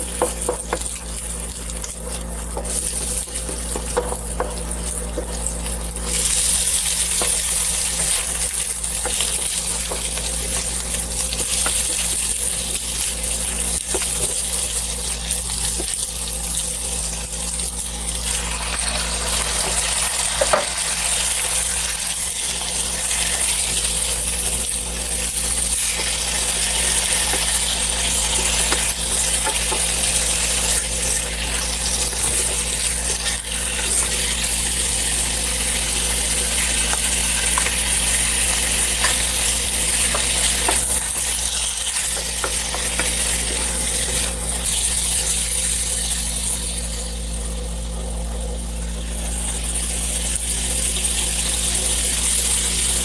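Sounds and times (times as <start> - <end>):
meat sizzling in hot oil: 0.0 - 53.0
steady low hum: 0.0 - 53.0.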